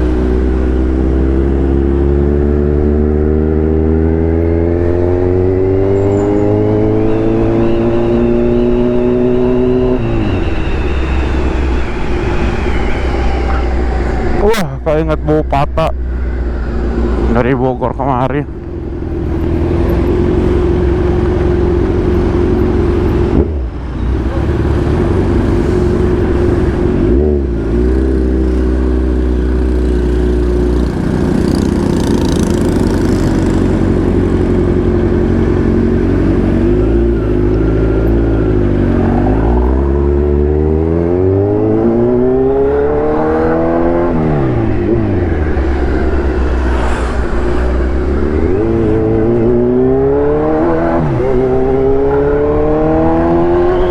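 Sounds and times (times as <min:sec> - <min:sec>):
motorcycle engine revving: 0:00.0 - 0:14.6, 0:16.0 - 0:53.9.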